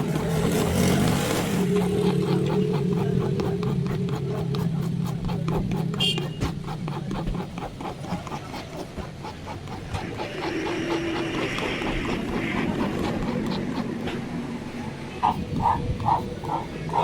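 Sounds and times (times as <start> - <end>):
machine rapid ticking: 0.0 - 17.0.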